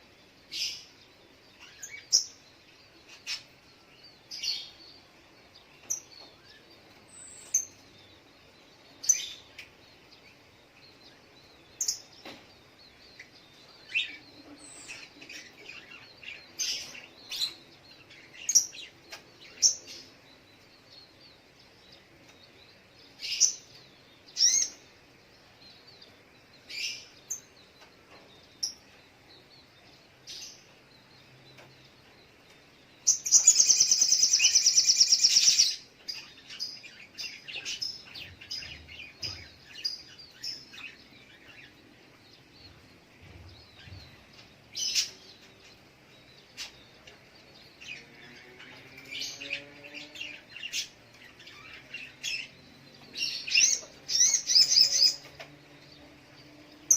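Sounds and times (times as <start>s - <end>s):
bird chirping: 0.0s - 56.9s.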